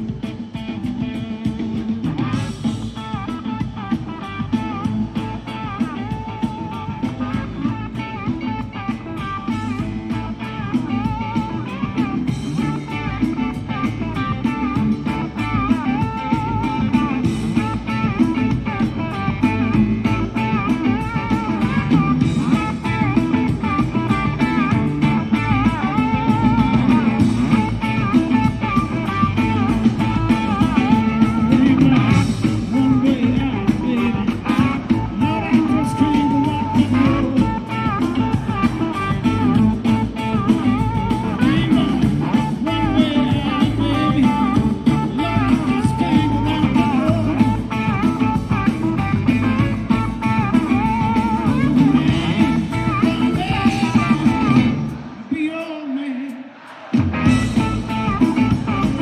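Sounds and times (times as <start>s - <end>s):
electric guitar solo: 0.0s - 56.0s, 57.0s - 59.0s
blues-rock band playing: 0.0s - 59.0s.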